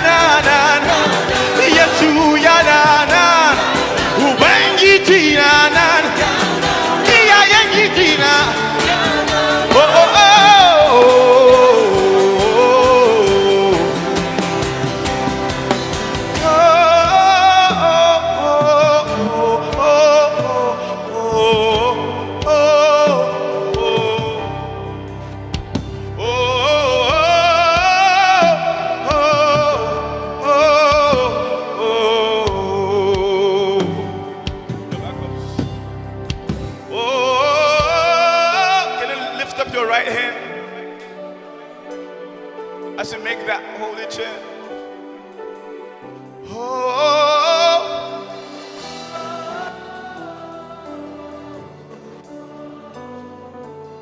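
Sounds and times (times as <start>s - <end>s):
person singing with vibrato: 0.0s - 25.4s, 26.0s - 35.5s, 36.7s - 54.0s
gospel worship music: 0.0s - 54.0s.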